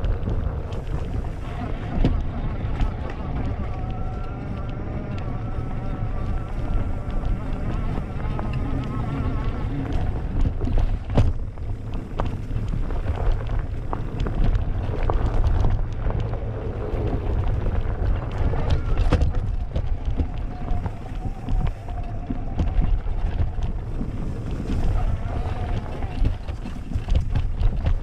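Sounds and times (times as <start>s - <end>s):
bike clicks and rattles: 0.0s - 28.0s
wind buffeting microphone: 0.0s - 28.0s.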